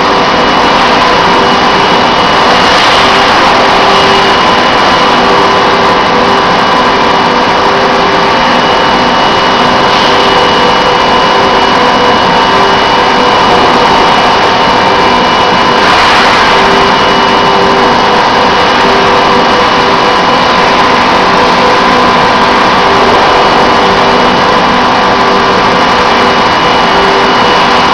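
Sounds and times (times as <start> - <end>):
factory machine hum: 0.0 - 27.9
low machine tones: 0.0 - 27.9.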